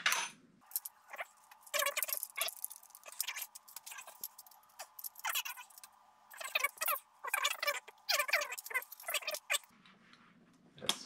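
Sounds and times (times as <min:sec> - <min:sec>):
metal fittings clicking and rattling: 0:00.7 - 0:09.6.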